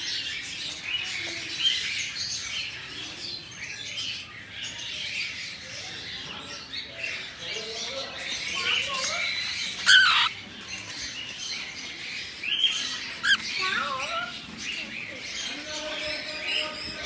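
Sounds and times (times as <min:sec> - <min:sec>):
cockatiels chirping and chattering: 0:00.1 - 0:17.0.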